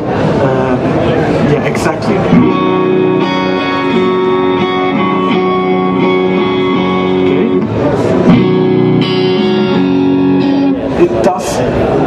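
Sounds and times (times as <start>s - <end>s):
electric guitar chords: 2.0s - 12.0s.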